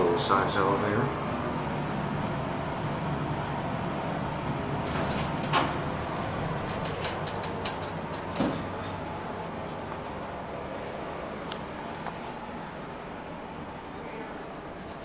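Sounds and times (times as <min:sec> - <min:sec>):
steady elevator cab hum: 0:00.0 - 0:15.0
elevator doors clicking and rattling: 0:02.4 - 0:15.0.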